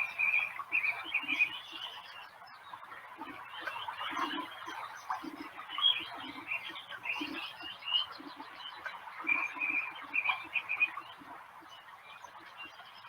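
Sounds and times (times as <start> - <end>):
birds chirping: 0.0 - 13.0
frogs croaking: 0.0 - 13.0.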